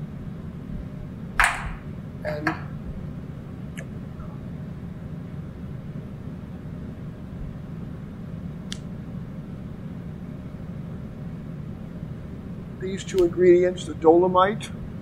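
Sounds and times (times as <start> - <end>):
room ventilation hum: 0.0 - 15.0.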